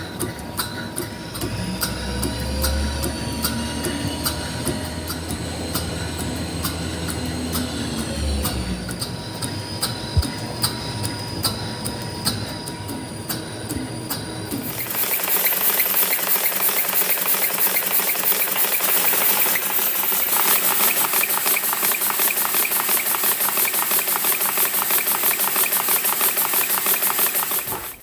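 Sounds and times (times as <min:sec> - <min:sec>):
model engine running fast: 0:00.0 - 0:28.0.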